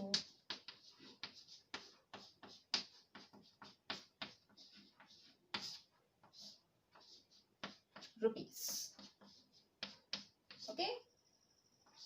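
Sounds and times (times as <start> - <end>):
pen scratching on paper: 0.0 - 10.9.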